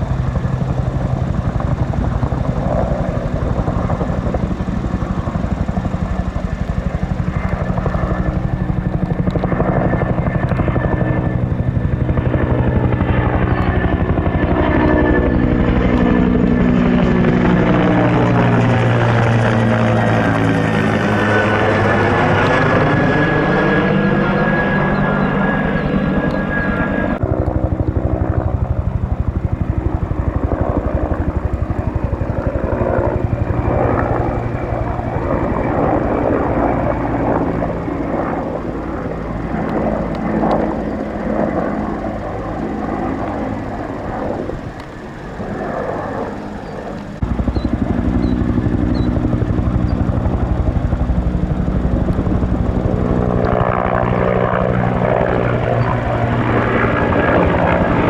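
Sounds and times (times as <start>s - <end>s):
helicopter engine whine: 0.0s - 58.0s
helicopter rotor blades beating: 0.0s - 58.0s.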